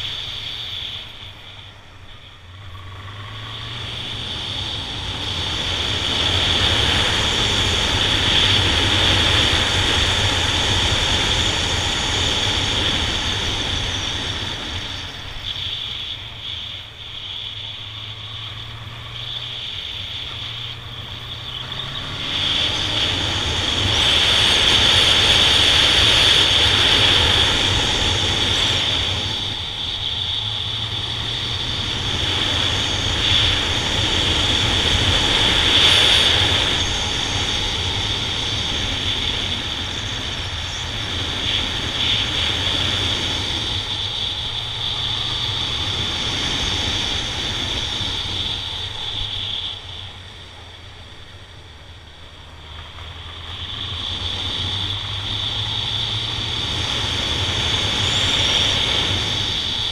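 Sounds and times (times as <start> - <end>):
motorcycle engine running: 0.0 - 59.9
rushing wind noise: 0.0 - 59.9.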